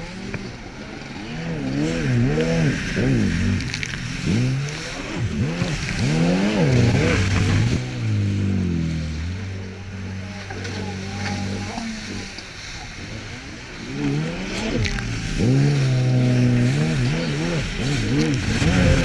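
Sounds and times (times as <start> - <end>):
watercraft engine revving: 0.0 - 19.0.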